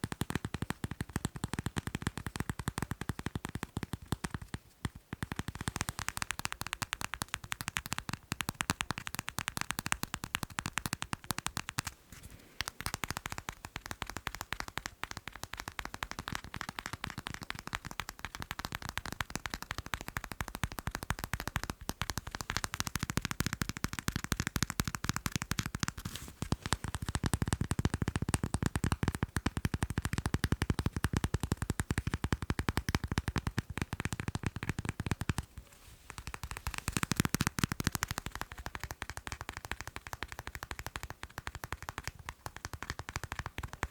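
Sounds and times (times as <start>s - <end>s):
rapid tapping on macarons: 0.0s - 12.0s, 12.6s - 43.9s.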